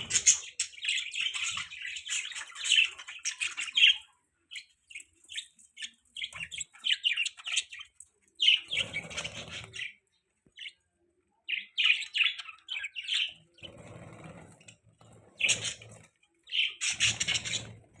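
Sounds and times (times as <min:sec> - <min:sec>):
budgerigars chirping: 0:00.0 - 0:10.0, 0:11.5 - 0:18.0.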